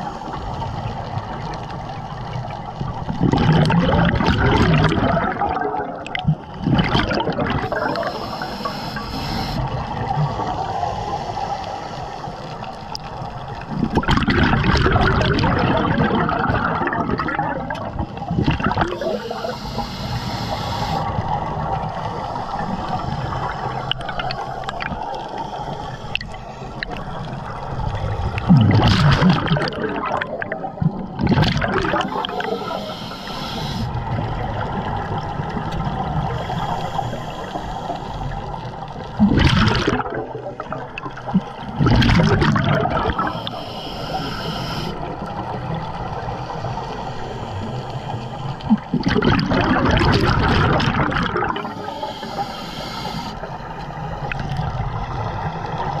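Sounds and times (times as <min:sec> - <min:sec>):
diver's bubbles gurgling: 0:00.0 - 0:11.2, 0:12.5 - 0:56.0
steady underwater rush: 0:00.0 - 0:56.0.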